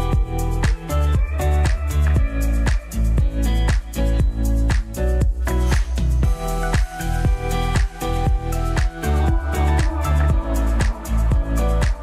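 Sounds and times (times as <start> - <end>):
background music with bass beat: 0.0 - 12.0.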